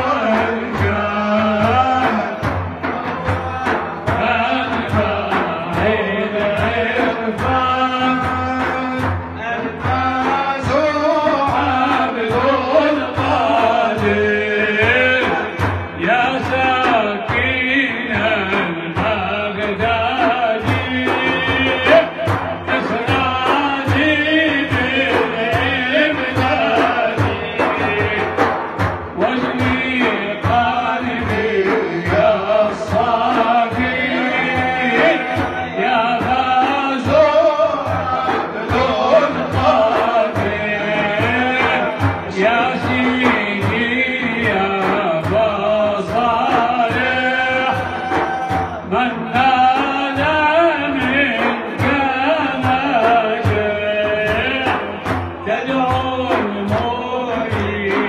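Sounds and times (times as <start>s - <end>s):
frame drum beating: 0.0s - 58.0s
man singing a devotional hymn: 0.0s - 58.0s.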